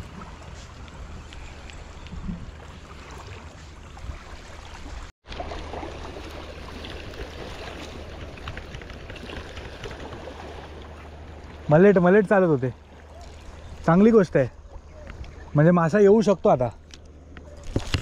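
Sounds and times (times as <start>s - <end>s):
water lapping at shore: 0.0s - 16.2s.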